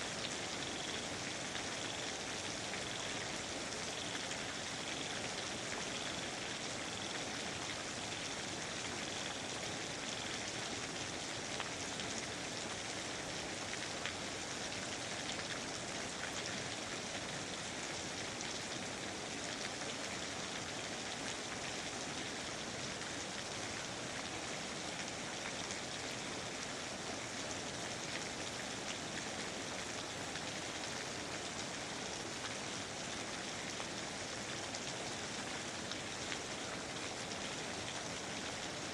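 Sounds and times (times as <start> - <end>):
raindrops ticking on surfaces: 0.0 - 38.9
steady rain hiss: 0.0 - 38.9.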